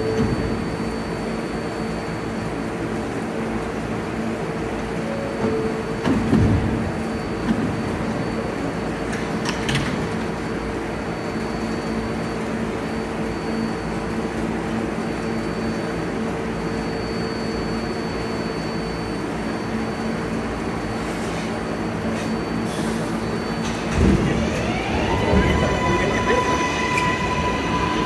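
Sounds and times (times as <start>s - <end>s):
subway car equipment humming: 0.0s - 28.0s.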